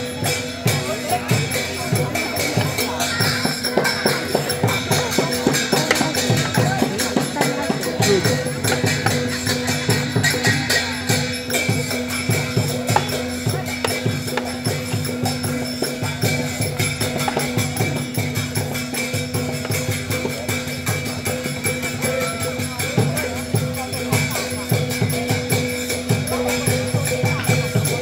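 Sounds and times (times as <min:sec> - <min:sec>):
drums beating: 0:00.0 - 0:28.0
jingling percussion: 0:00.0 - 0:28.0.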